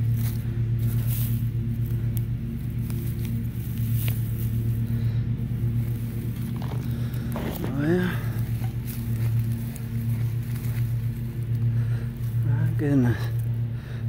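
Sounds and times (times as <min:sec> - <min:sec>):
hand digging in dry soil: 0:00.0 - 0:13.8
motor humming: 0:00.0 - 0:14.0.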